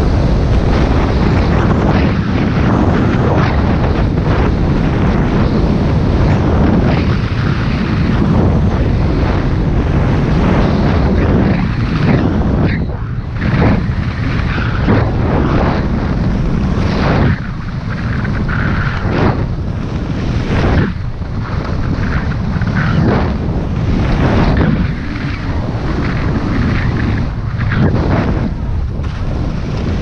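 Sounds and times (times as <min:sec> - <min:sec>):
wind over microphone: 0:00.0 - 0:30.0.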